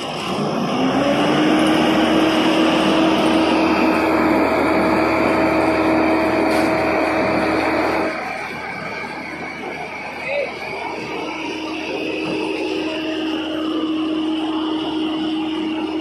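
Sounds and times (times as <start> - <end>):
vehicle engine revving and droning: 0.0 - 16.0.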